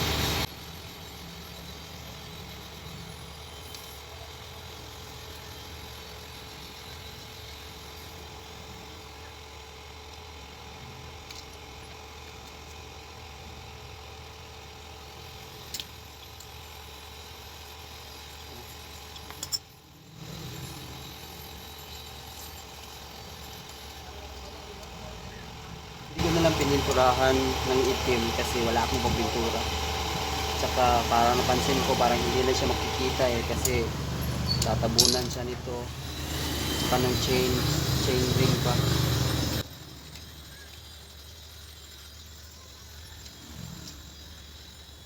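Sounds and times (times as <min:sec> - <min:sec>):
low background hum: 0:00.0 - 0:41.4.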